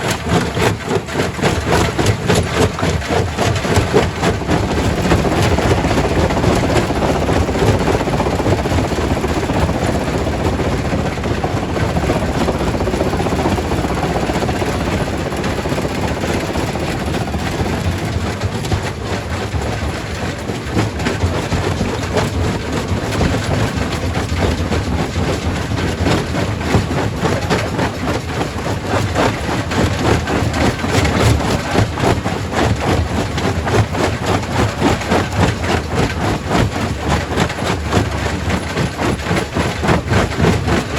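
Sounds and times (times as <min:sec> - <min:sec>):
rock crusher rumbling: 0:00.0 - 0:40.9.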